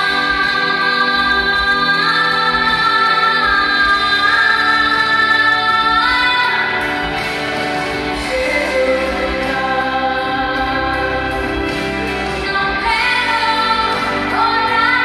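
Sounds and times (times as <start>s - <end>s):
backing music: 0.0s - 15.0s
boy singing a pop ballad: 0.0s - 15.0s.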